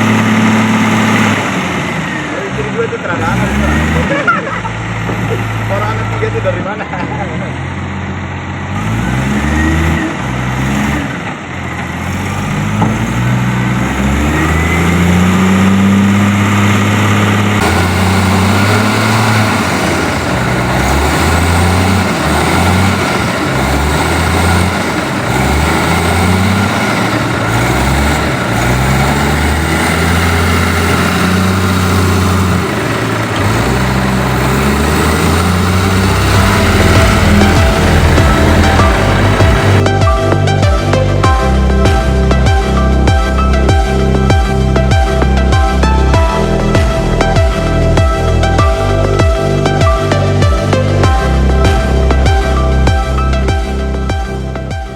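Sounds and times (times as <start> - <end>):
heavy diesel engine revving: 0.0 - 54.9.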